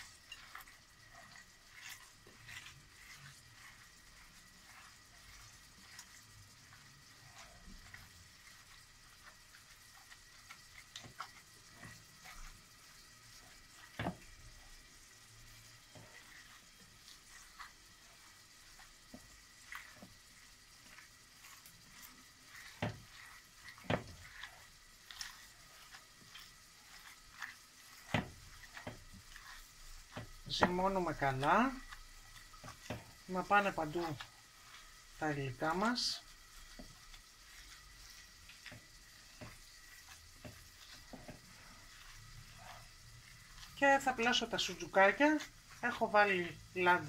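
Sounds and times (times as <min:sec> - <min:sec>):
wet squishing of kneaded meat: 0:00.0 - 0:47.0.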